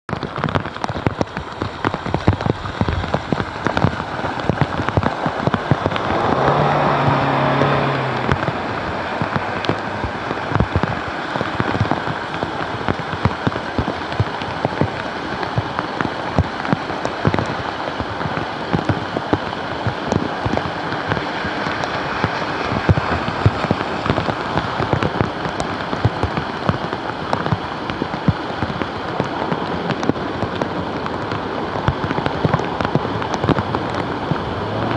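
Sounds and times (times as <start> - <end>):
heavy rain on standing water: 0.0 - 34.9
low hum with rushing noise: 0.1 - 34.9.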